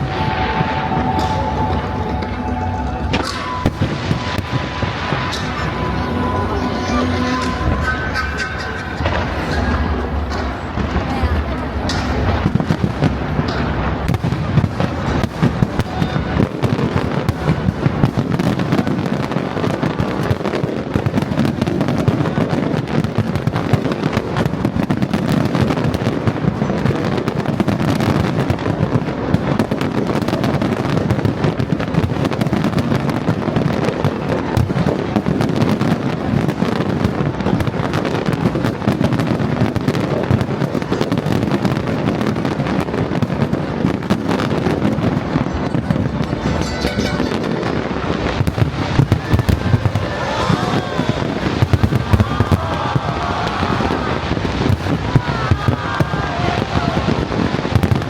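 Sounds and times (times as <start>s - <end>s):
fireworks rapid bangs: 0.0s - 58.0s.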